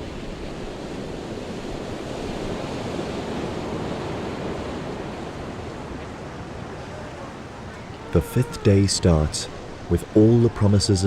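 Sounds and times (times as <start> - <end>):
ocean waves washing on shore: 0.0 - 11.0.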